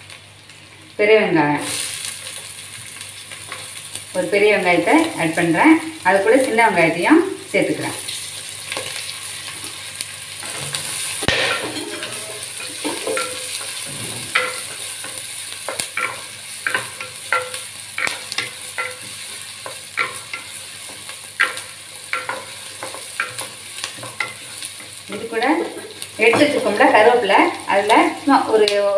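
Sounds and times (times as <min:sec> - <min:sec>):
shallots sizzling in hot oil: 0:00.0 - 0:28.9.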